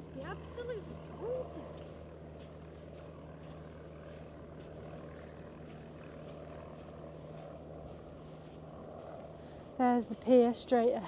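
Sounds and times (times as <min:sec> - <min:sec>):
propeller aircraft droning: 0:00.0 - 0:11.0.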